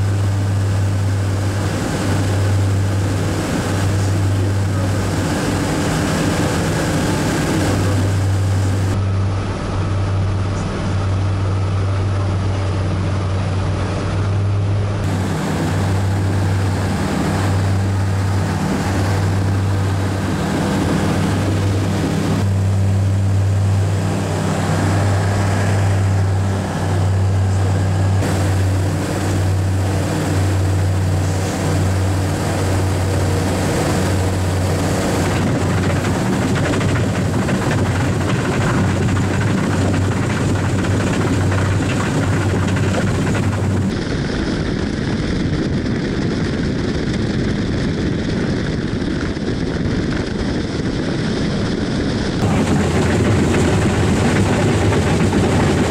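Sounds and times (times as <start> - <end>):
rough rushing noise: 0.0 - 49.2, 49.8 - 55.9
propeller plane engine drone: 0.0 - 55.9.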